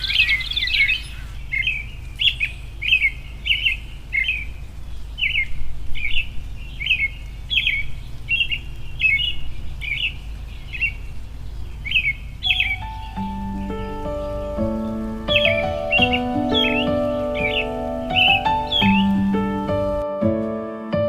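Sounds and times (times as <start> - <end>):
steady low rumble: 0.0 - 20.5
bird chirping: 0.0 - 20.6.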